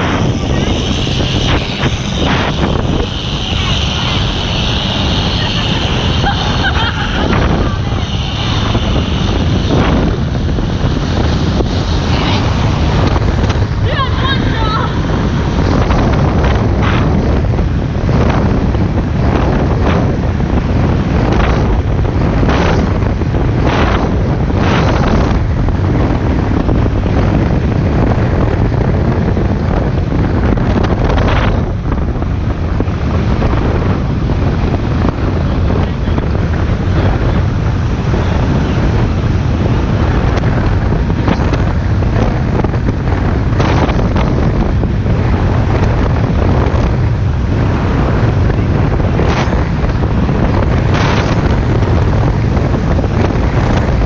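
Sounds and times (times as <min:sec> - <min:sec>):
boat engine low rumble: 0:00.0 - 0:54.0
hull slapping waves: 0:00.0 - 0:54.0
wind buffeting microphone: 0:00.0 - 0:54.0.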